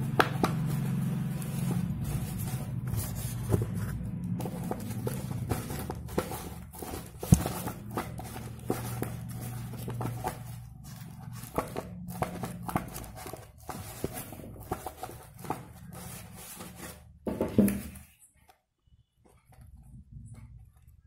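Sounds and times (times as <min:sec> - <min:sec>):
husks and paper rustling: 0:00.0 - 0:18.4.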